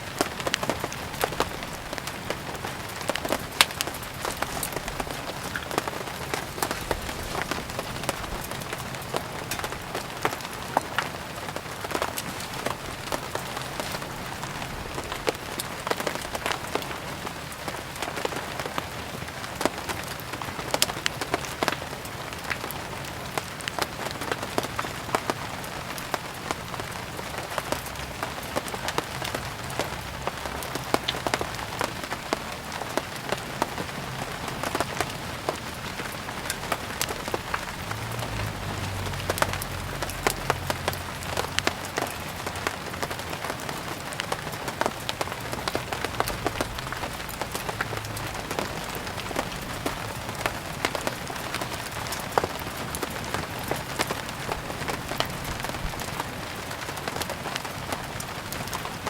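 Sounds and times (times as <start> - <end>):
firewood crackling and popping: 0.0 - 59.0
steady rain falling: 0.0 - 59.0.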